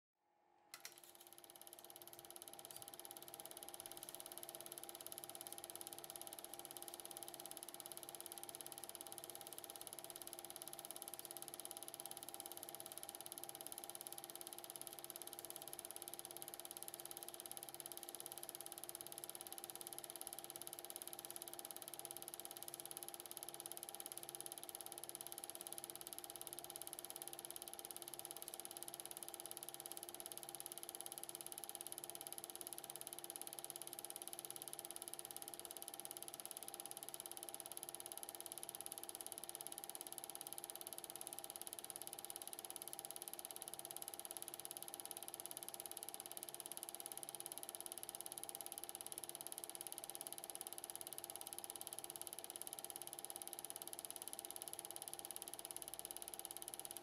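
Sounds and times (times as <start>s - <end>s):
film projector whirring: 0.8s - 57.0s.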